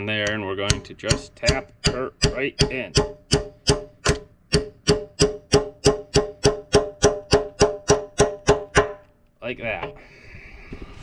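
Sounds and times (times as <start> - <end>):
hammer striking steel pin: 0.0 - 9.1.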